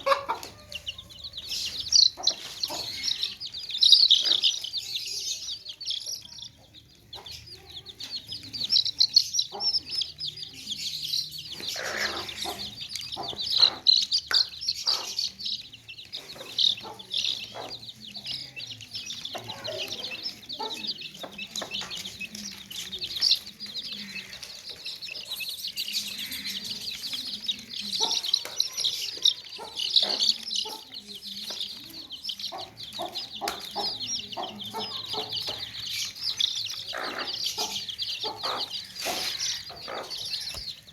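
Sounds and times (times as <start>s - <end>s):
baby chicks peeping: 0.0s - 40.9s
chicken clucking: 0.0s - 40.9s.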